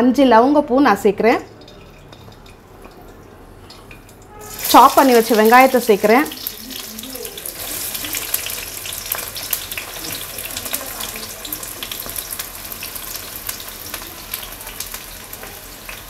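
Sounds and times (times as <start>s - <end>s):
onions sizzling in hot oil: 1.5s - 16.0s.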